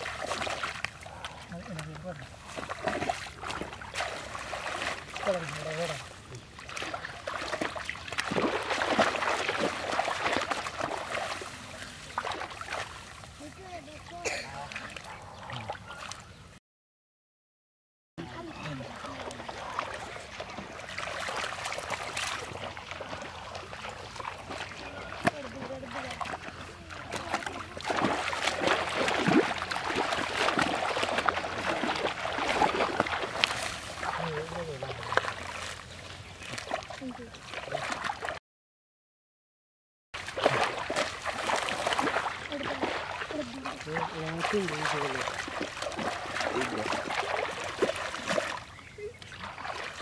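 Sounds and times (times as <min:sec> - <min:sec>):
water splashing and sloshing: 0:00.0 - 0:16.6, 0:18.2 - 0:38.4, 0:40.2 - 0:50.0.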